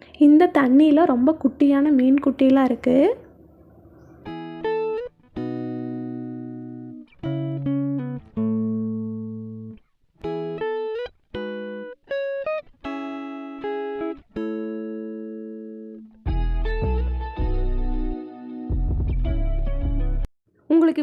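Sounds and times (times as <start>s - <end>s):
plucked guitar: 3.4s - 20.2s.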